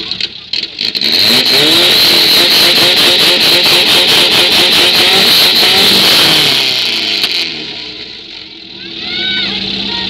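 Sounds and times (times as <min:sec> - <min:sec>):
dune buggy engine revving: 0:00.0 - 0:10.0.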